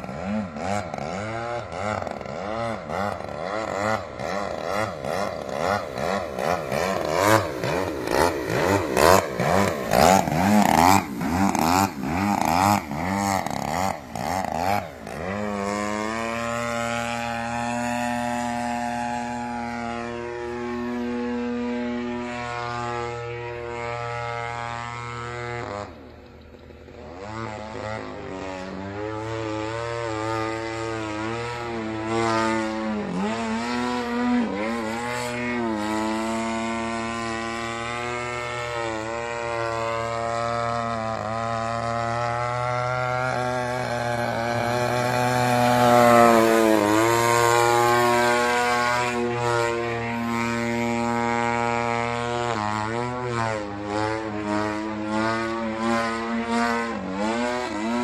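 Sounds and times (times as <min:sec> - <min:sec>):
model airplane motor and propeller: 0:00.0 - 0:58.0.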